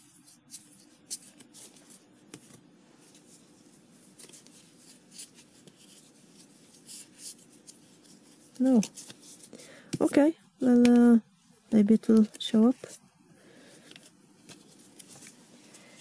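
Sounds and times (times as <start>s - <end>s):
trading cards flicking and rustling: 0.0s - 11.2s, 11.8s - 13.0s, 13.7s - 16.0s.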